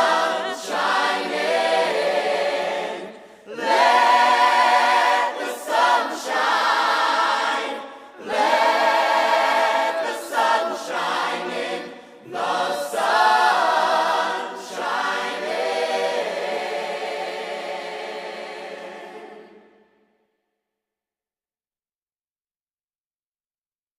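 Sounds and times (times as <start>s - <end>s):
choir singing: 0.0s - 20.2s.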